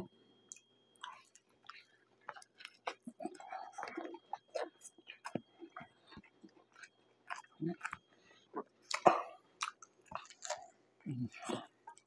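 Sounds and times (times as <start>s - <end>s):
person chewing food: 0.5s - 12.0s.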